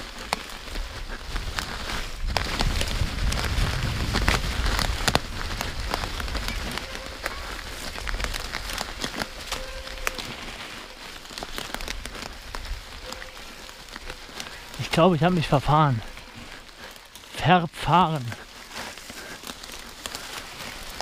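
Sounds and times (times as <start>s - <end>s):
bike tyres rolling over leaves: 0.0s - 21.0s.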